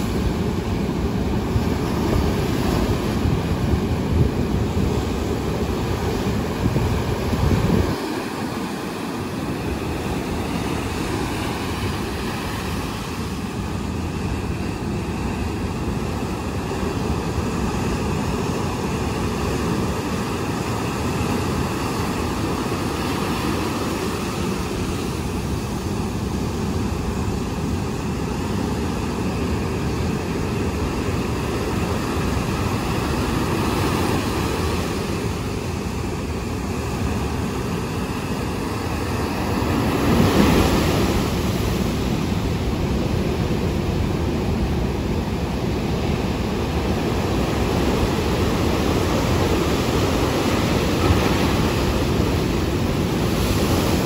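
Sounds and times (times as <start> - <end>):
waves breaking on beach: 0.0 - 54.0.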